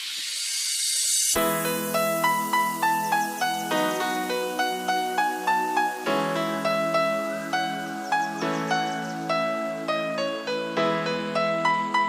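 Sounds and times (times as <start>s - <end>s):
rising hiss swell: 0.0s - 12.0s
melody over held chord: 1.4s - 12.0s.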